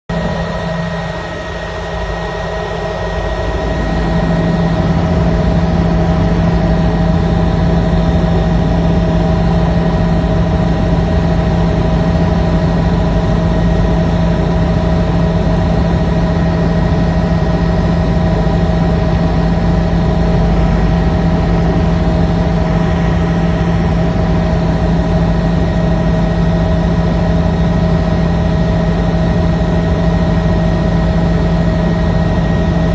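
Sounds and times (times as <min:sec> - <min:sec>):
helicopter in flight: 0:00.1 - 0:32.9.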